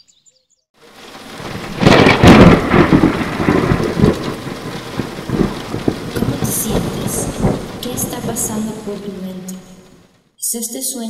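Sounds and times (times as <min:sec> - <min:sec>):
rain: 0:00.8 - 0:10.3
thunder rumbling: 0:00.8 - 0:10.3.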